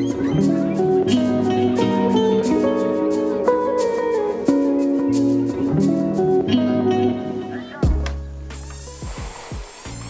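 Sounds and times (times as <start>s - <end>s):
plucked string melody: 0.0s - 9.1s.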